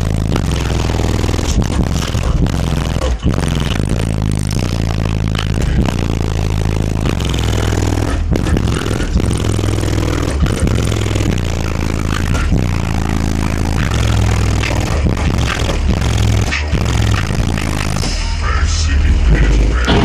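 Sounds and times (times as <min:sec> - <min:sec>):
loud bass-heavy music: 0:00.0 - 0:20.0.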